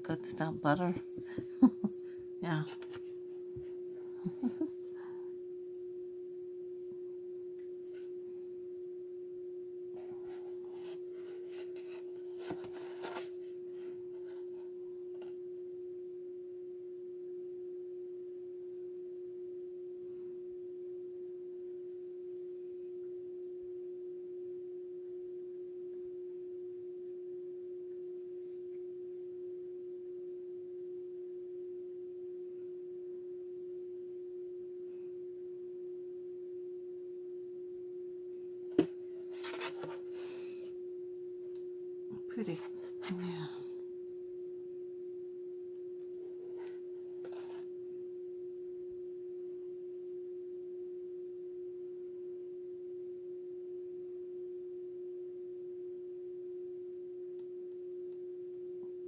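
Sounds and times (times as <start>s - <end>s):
steady pure tone: 0.0s - 59.0s.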